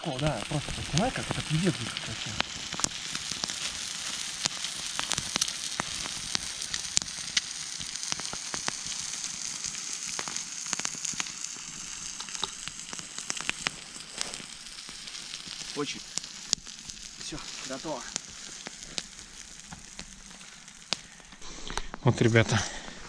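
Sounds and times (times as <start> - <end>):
food sizzling in oil: 0.0 - 22.4
oil spattering crackles: 0.0 - 23.0.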